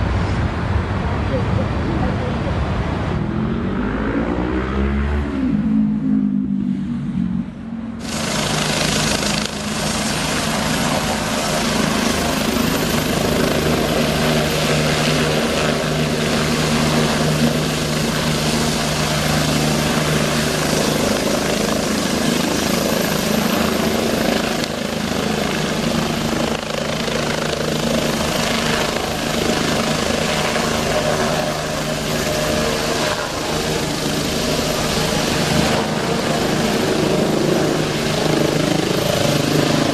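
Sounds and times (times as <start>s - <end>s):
helicopter turbine and rotor noise: 0.0s - 4.6s, 5.5s - 39.9s.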